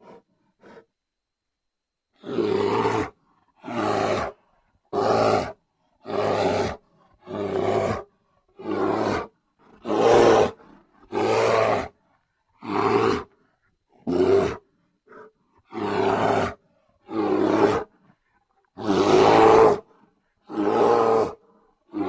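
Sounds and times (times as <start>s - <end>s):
brown bear roaring: 0.0s - 0.8s, 2.2s - 12.0s, 12.6s - 13.4s, 14.0s - 18.0s, 18.6s - 22.0s.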